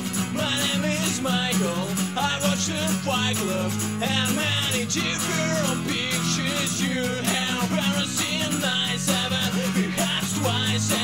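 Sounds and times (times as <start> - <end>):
person singing with guitar: 0.0 - 11.0.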